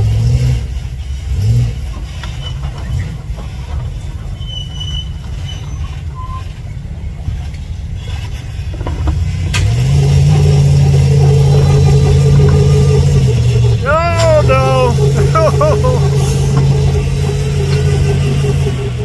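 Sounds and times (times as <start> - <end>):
truck engines running low: 0.0 - 19.0.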